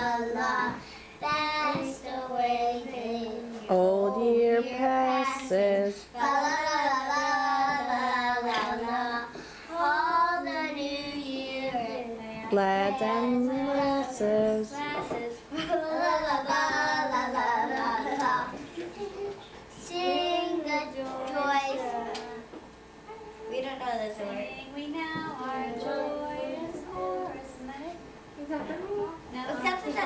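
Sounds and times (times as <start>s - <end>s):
children singing a carol: 0.0s - 22.5s, 25.0s - 27.5s.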